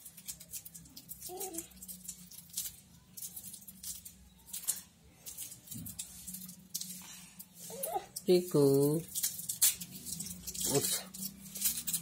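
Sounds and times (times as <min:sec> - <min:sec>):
faint rustles and clicks: 0:00.0 - 0:12.0.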